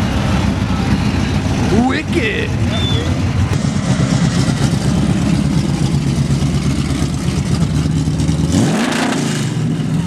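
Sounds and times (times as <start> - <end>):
car engine idling loudly: 0.0 - 10.0.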